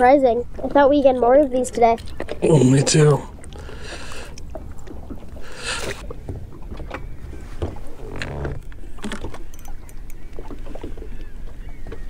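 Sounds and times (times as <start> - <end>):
wind and water against hull: 0.0 - 12.0.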